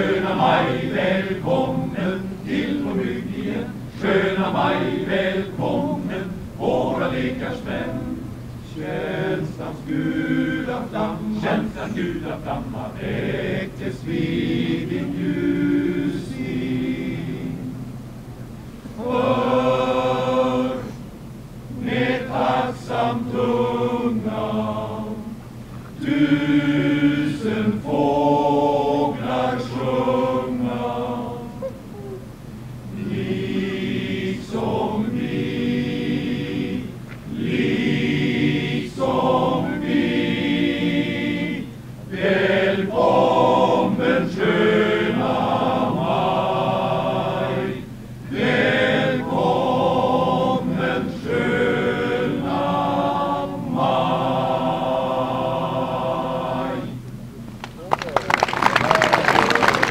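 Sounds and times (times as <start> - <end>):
male choir singing a cappella: 0.0 - 18.0, 18.8 - 31.8, 32.8 - 57.1.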